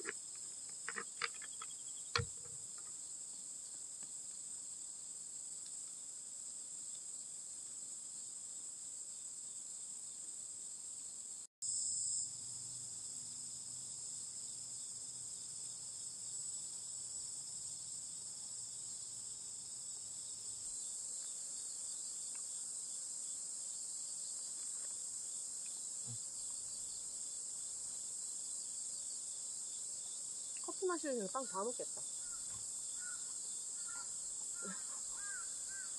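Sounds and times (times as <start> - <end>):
insects trilling: 0.0 - 4.6, 10.4 - 35.9.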